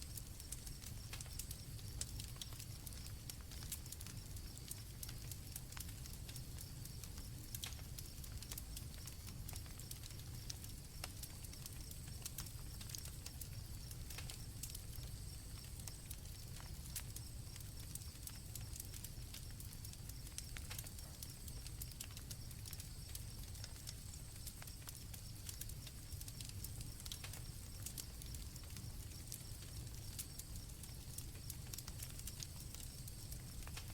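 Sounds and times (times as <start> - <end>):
campfire crackling and popping: 0.0 - 33.9
crickets chirring: 6.5 - 33.9.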